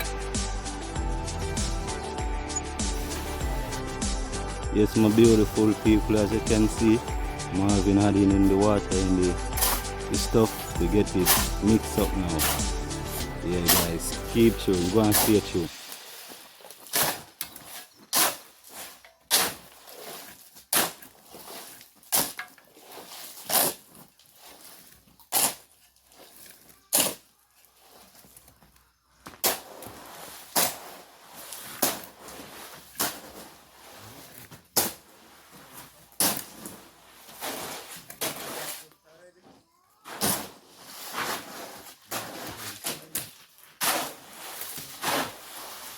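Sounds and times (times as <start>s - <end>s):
shovel scraping wet concrete: 0.0s - 28.5s, 29.3s - 39.0s, 40.0s - 45.9s.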